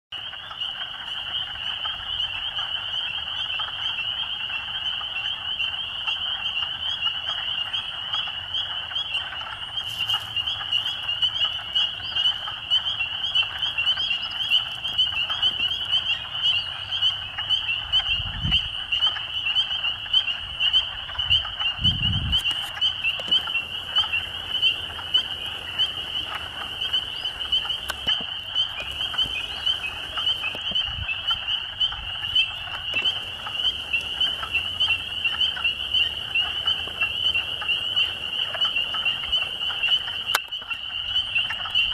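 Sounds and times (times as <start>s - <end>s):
frogs trilling in chorus: 0.1s - 41.9s.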